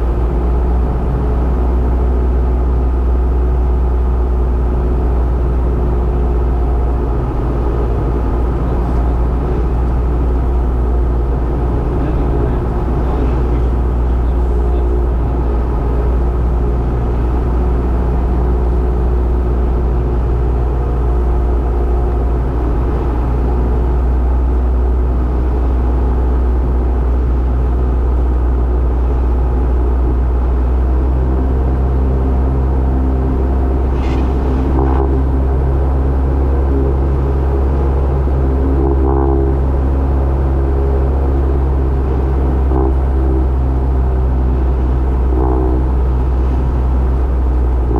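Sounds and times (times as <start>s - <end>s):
propeller plane engine droning: 0.0s - 47.9s.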